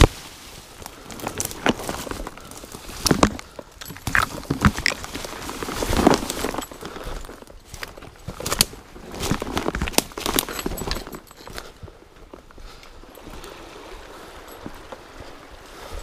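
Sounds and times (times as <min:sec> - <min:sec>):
branches brushing: 0:00.0 - 0:16.0
clothing rustling: 0:00.0 - 0:16.0
footsteps on dry leaves and twigs: 0:00.0 - 0:16.0.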